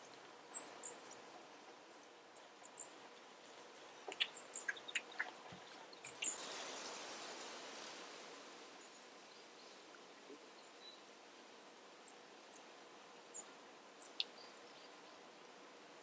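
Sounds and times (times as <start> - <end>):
rustling hiss: 0.0 - 16.0.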